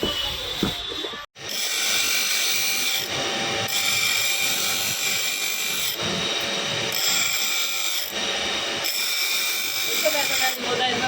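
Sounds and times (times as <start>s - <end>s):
power tool whining: 0.5s - 11.0s.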